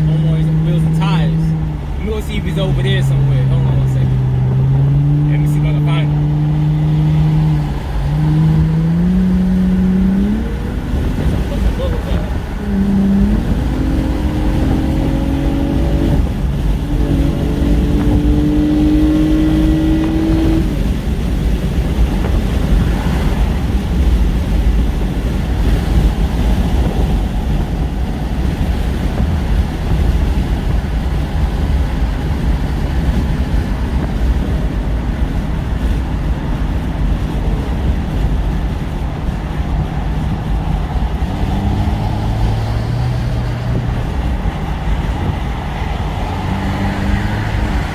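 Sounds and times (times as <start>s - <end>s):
car engine: 0.0s - 47.9s
road and wind noise: 0.0s - 47.9s.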